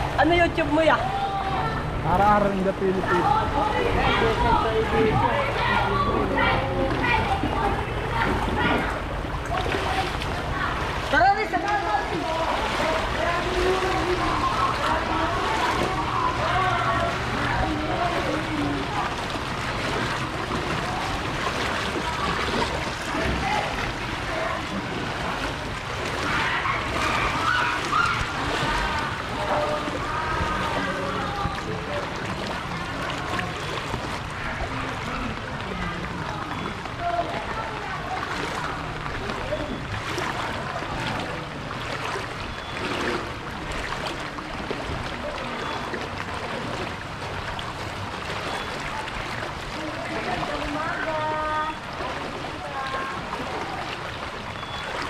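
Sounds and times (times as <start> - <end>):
people talking: 0.0 - 42.2, 48.7 - 54.2
water sloshing around wading legs: 0.0 - 55.0.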